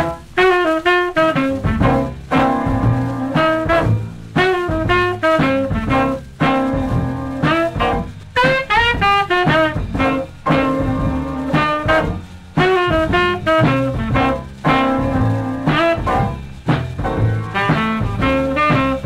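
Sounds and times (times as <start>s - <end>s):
upright bass: 0.0s - 0.3s, 1.2s - 19.0s
drums: 0.0s - 19.0s
saxophone melody: 0.0s - 19.0s.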